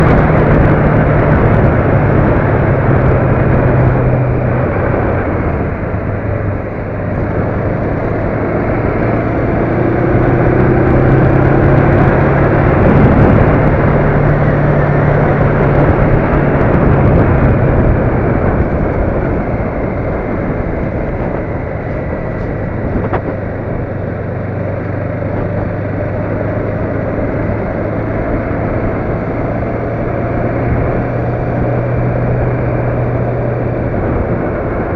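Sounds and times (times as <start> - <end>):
road and wind noise: 0.0 - 34.9
vehicle engine running: 0.0 - 34.9.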